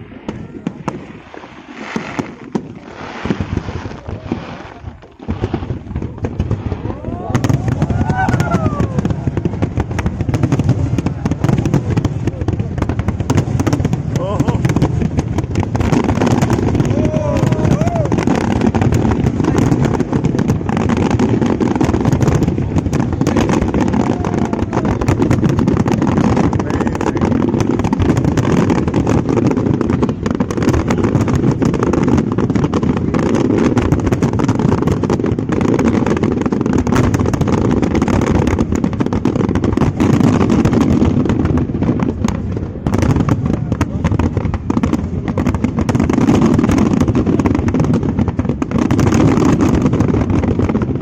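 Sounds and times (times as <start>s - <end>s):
fireworks bursts rumbling: 0.0s - 51.0s
fireworks crackling: 0.0s - 51.0s.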